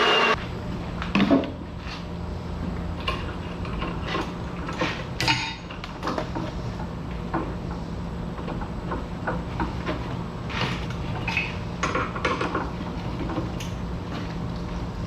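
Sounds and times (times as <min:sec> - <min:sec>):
steady low hum: 0:00.3 - 0:15.0.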